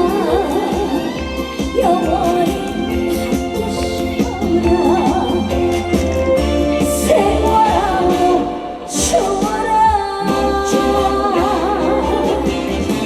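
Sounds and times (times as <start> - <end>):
band accompaniment: 0.0 - 13.0
woman singing with vibrato: 0.0 - 13.0.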